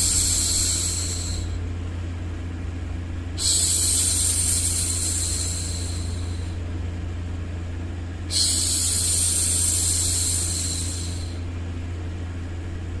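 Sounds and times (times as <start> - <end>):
low rumbling white noise: 0.0 - 13.0.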